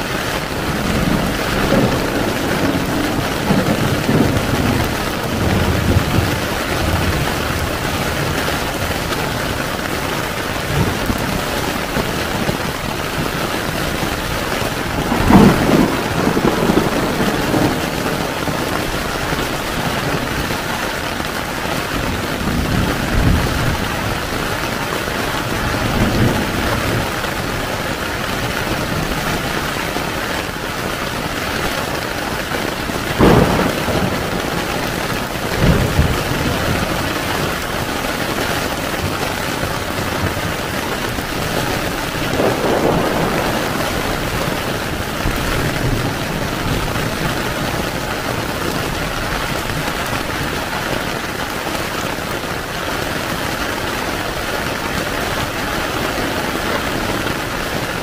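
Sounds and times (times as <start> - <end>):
heavy rain on a tent: 0.0 - 58.0
thunder rumbling: 0.0 - 58.0.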